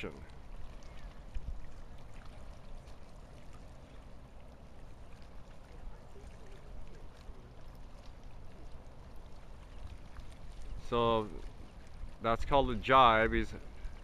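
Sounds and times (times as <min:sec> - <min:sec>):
faint moving water: 0:00.0 - 0:14.0.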